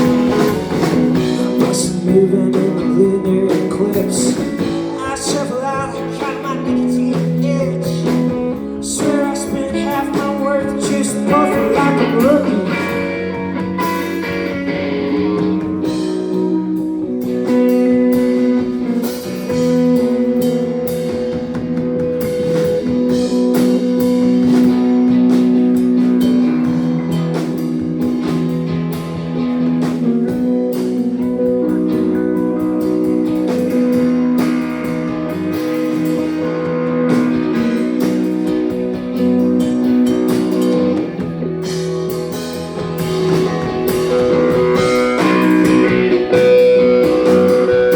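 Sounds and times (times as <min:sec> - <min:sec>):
guitar playing held notes: 0:00.0 - 0:47.9
steady drum beat: 0:00.0 - 0:47.9.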